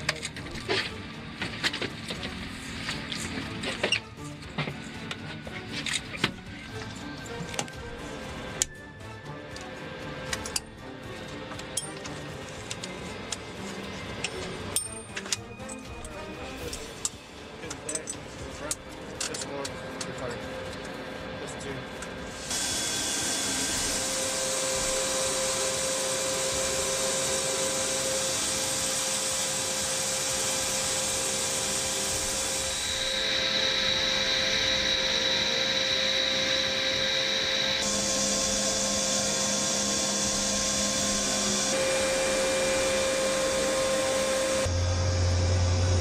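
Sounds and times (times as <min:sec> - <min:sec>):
helicopter turbines whining: 0:00.0 - 0:46.0.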